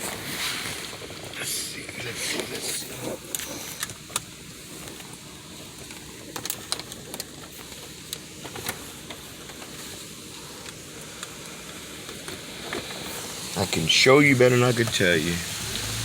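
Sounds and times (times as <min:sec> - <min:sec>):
dry leaves ticking against car: 0:00.0 - 0:16.0.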